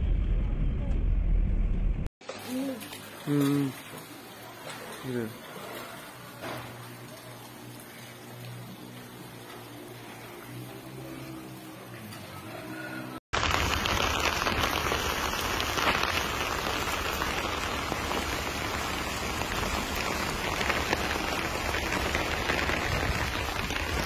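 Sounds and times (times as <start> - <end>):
heavy rain pouring: 2.2 - 24.0.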